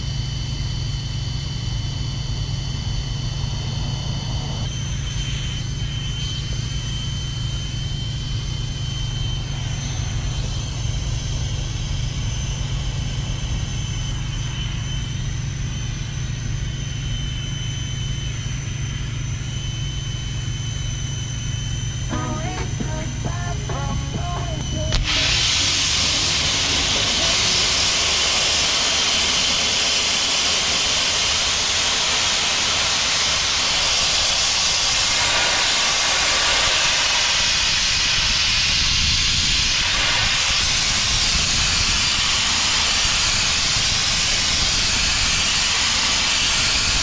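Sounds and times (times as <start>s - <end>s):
engine idling with high whine: 0.0s - 47.0s.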